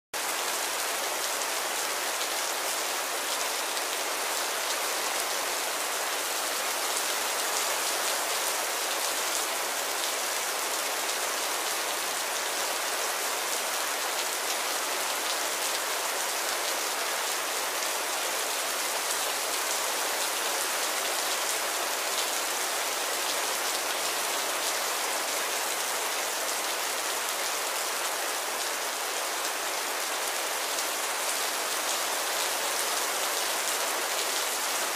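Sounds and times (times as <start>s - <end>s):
rain falling on a puddle: 0.2s - 34.9s.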